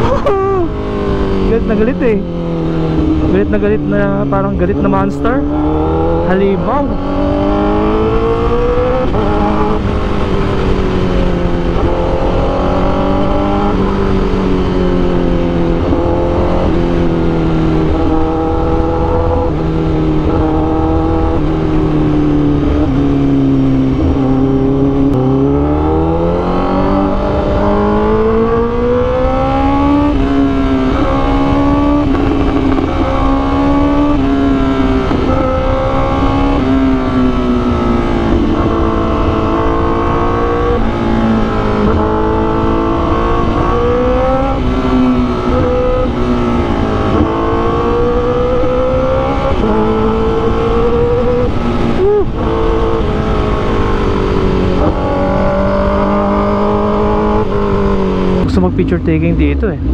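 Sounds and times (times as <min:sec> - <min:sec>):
motorcycle engine revving while riding: 0:00.0 - 0:59.9.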